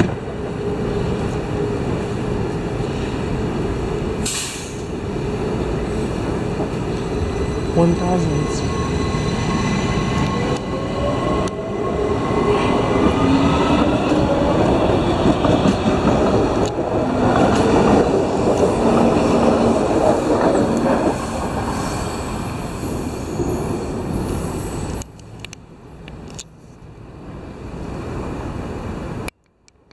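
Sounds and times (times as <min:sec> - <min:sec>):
wheel and rail rumble: 0:00.0 - 0:29.9.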